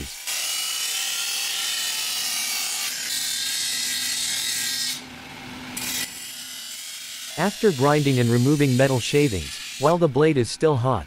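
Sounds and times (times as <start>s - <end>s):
blade on grinding wheel: 0.0s - 5.1s, 5.7s - 10.9s.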